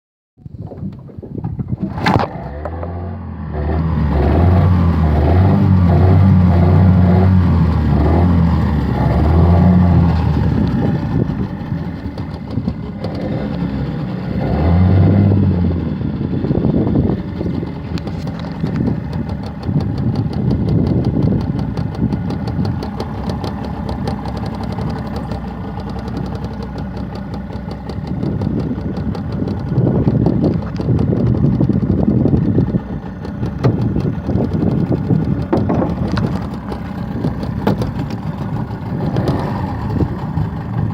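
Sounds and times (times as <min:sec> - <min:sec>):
outboard motor running: 0:00.4 - 0:40.9.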